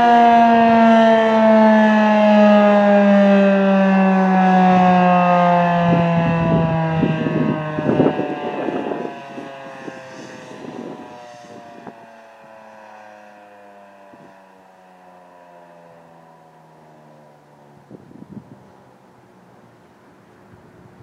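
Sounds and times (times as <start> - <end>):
siren winding down: 0.0 - 18.5.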